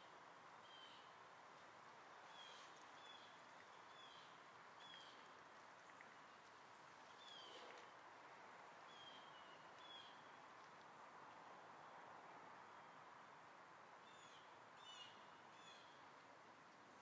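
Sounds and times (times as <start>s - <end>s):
low outdoor hiss: 0.0s - 17.0s.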